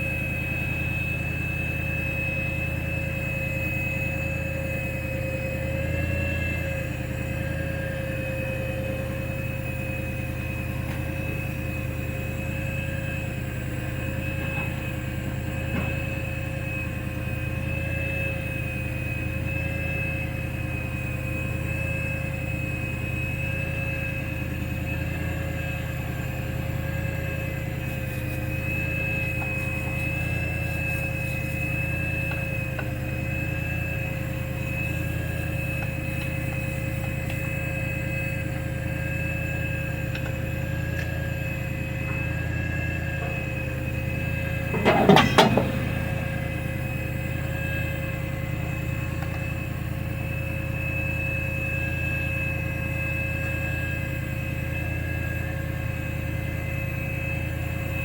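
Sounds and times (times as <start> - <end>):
machine drone with whining tones: 0.0 - 58.0.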